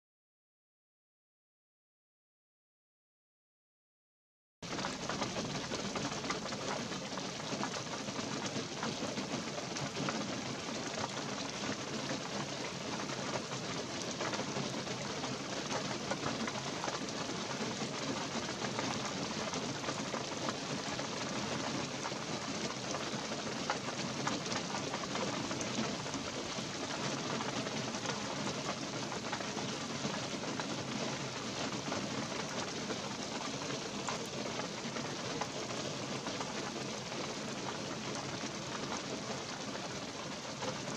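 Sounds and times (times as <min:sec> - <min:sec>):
light rain on pine trees: 0:04.6 - 0:40.9.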